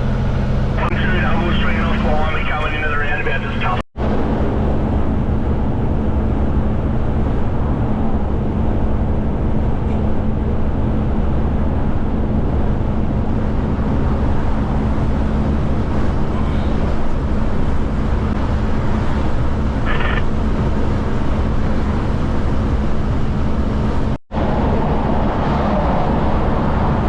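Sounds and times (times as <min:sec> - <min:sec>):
road noise: 0:00.0 - 0:27.0
truck diesel engine drone: 0:00.0 - 0:27.0.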